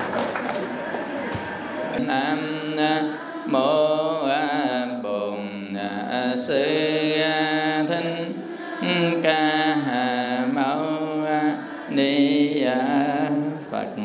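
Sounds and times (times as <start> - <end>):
group chanting: 0.6 - 14.0.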